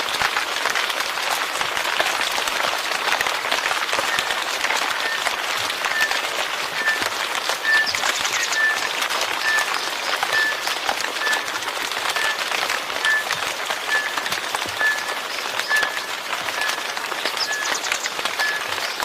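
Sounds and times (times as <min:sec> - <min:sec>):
rain drops pattering: 0:00.0 - 0:19.0.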